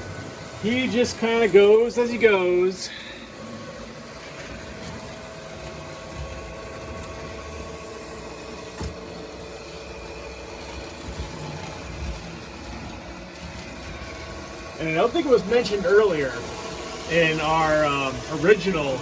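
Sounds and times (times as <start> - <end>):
electric motor hum: 0.0 - 19.0.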